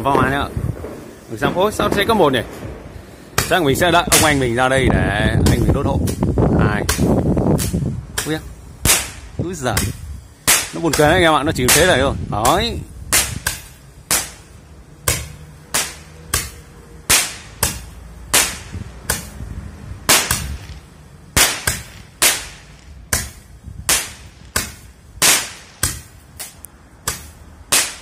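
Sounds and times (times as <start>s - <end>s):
firework sharp pops: 0.0s - 28.0s.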